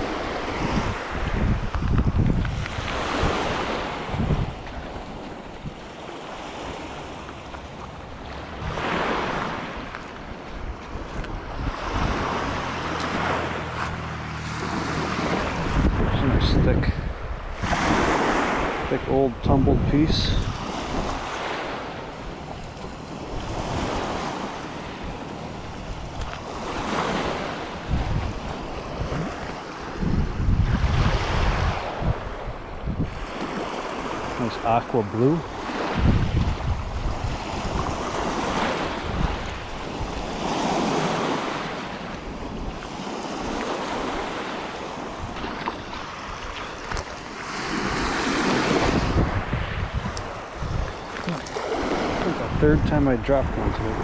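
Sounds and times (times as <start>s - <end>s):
waves washing onto shore: 0.0s - 54.0s
wind buffeting microphone: 0.0s - 54.0s.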